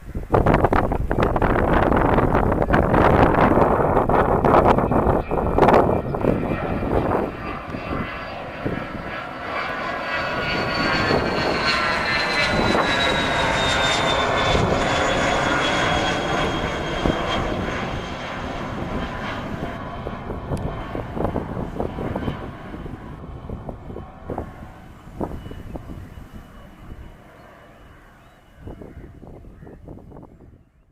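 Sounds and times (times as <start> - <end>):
jet engines passing by: 0.0 - 30.8.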